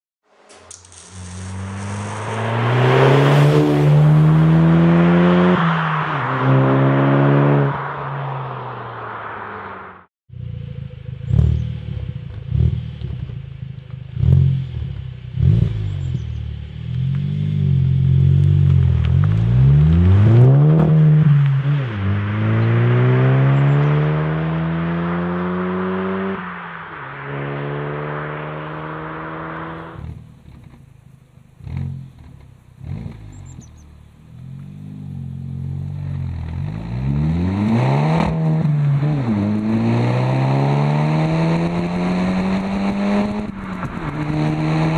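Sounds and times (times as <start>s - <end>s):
car engine revving: 0.3s - 44.9s
car accelerating away: 1.0s - 44.9s.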